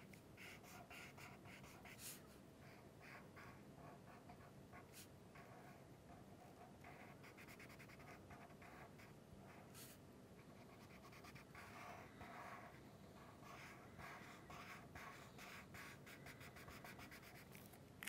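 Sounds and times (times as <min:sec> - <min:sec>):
marker scratching on paper: 0:00.0 - 0:17.7.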